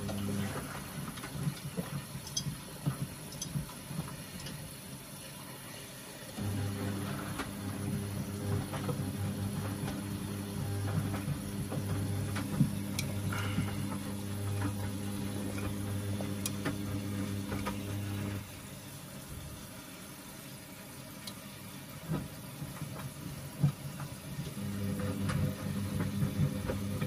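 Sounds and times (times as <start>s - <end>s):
washing machine motor humming: 0.0s - 27.0s.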